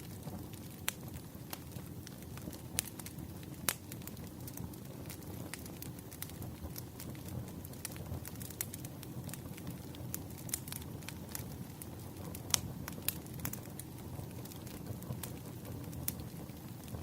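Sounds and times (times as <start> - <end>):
bonfire popping: 0.0 - 17.0
low rumble of flames: 0.0 - 17.0.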